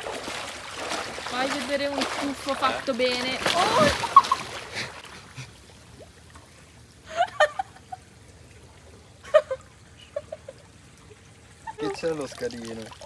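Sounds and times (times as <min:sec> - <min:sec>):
pool water lapping: 0:00.0 - 0:13.0.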